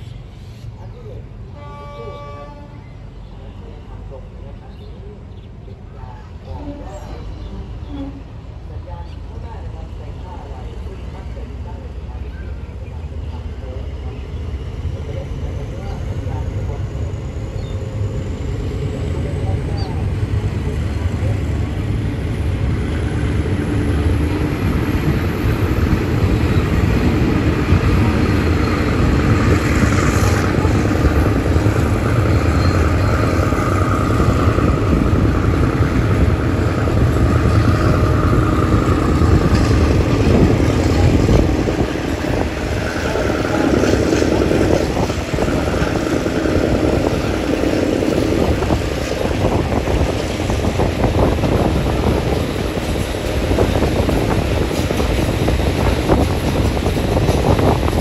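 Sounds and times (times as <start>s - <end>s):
train wheels rumbling on rails: 0.0s - 58.0s
locomotive engine: 6.0s - 58.0s.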